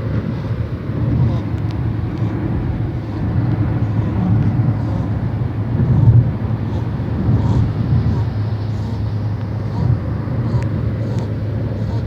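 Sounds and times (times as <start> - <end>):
moving car rumble: 0.0 - 12.0
dog snoring: 0.1 - 12.0.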